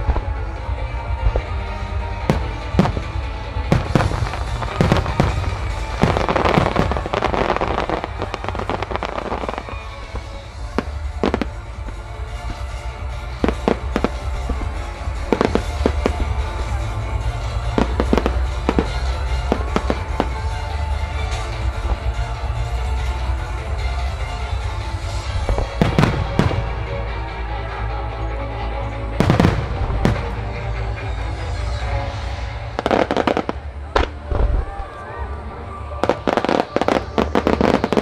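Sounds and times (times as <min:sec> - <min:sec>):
fireworks bangs: 0:00.0 - 0:23.8, 0:24.4 - 0:27.2, 0:29.2 - 0:34.7, 0:35.9 - 0:38.0
fireworks crackling: 0:00.0 - 0:38.0.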